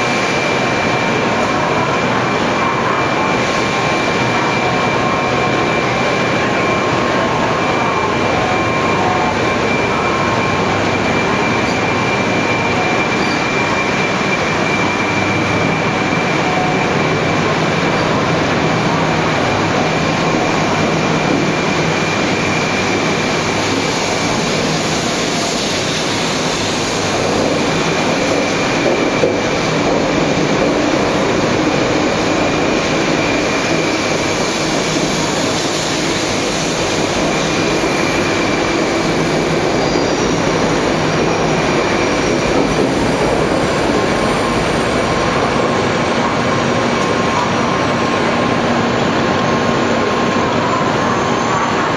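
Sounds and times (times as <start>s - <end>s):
train rolling past with rumble: 0.0s - 51.9s.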